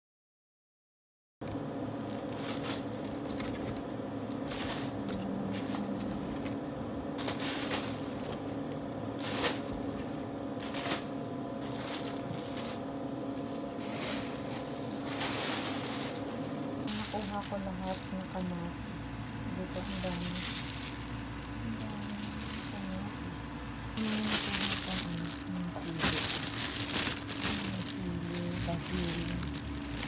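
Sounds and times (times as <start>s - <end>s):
steady background hum: 1.4s - 30.0s
plastic bag rustling: 2.0s - 30.0s.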